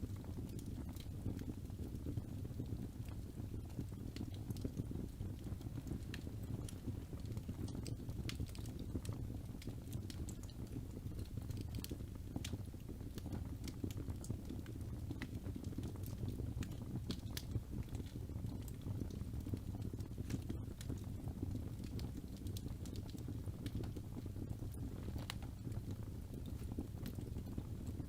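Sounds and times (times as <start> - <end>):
fire flames rumbling: 0.0 - 28.0
wood crackling and popping: 0.0 - 28.0.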